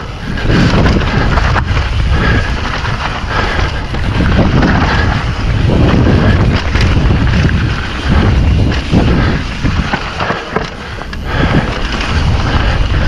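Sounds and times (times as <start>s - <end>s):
bike clattering over bumps: 0.0s - 13.0s
wind buffeting microphone: 0.0s - 13.0s.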